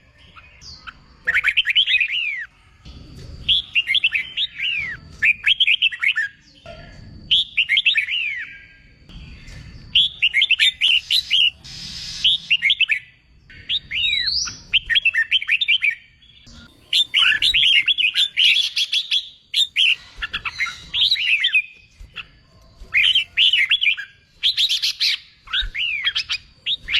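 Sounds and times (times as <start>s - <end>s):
bulbul singing whistled phrases: 0.2s - 2.5s, 3.4s - 26.9s.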